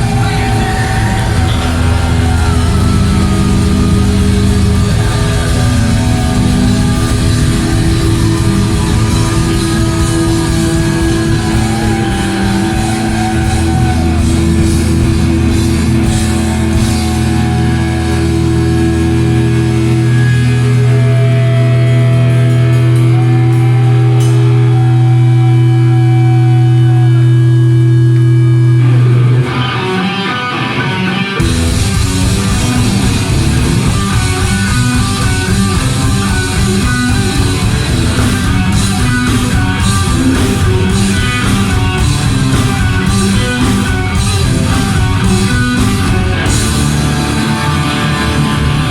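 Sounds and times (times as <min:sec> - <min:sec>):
electric guitar and bass chords: 0:00.0 - 0:48.9
heavy metal band with drums: 0:00.0 - 0:48.9.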